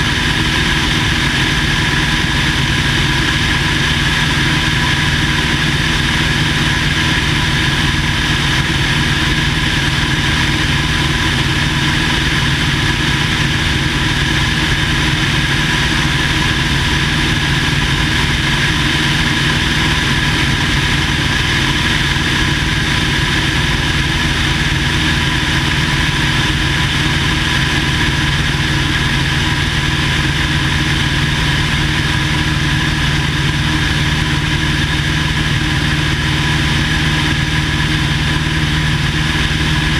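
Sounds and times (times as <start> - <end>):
airplane engine and propeller running: 0.0 - 39.9.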